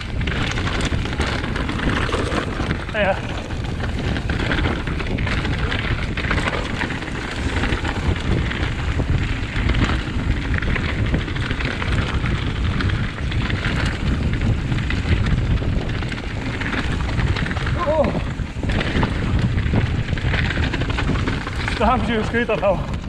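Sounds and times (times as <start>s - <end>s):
bike clattering and knocking: 0.0s - 23.0s
bike tyres crunching on stones: 0.0s - 23.0s
wind buffeting microphone: 0.0s - 23.0s.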